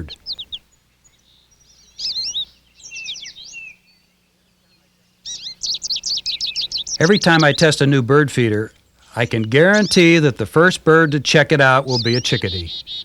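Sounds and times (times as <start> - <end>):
small songbirds chirping: 0.0 - 13.0.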